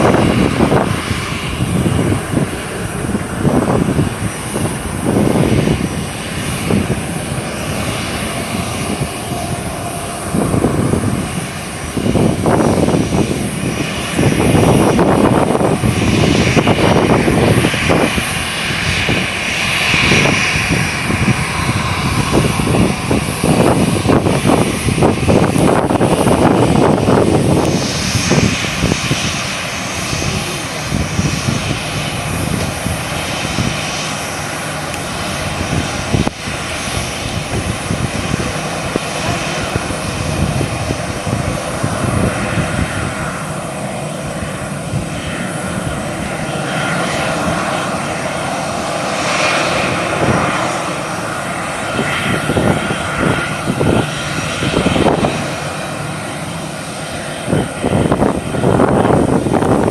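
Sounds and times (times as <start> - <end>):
jet engines rushing with whine: 0.0 - 59.9.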